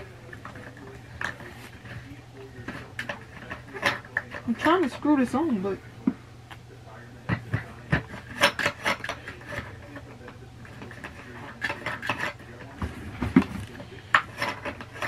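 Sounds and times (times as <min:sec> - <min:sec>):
plastic parts clicking and scraping: 0:00.0 - 0:04.9, 0:07.3 - 0:15.0.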